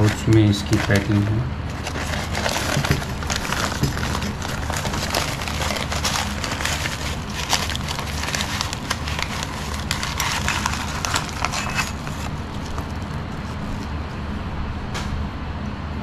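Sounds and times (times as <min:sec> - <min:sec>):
packaging rustling and clicking: 0:00.0 - 0:14.0
steady low hum: 0:00.0 - 0:16.0.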